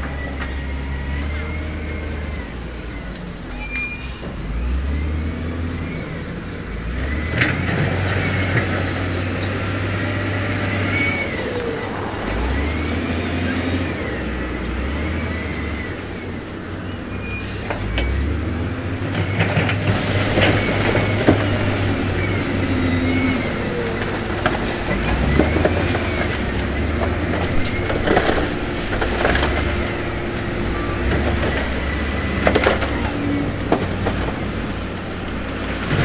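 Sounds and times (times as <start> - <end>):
machinery squeals: 0.0 - 34.7
heavy diesel machinery engine: 0.0 - 36.0.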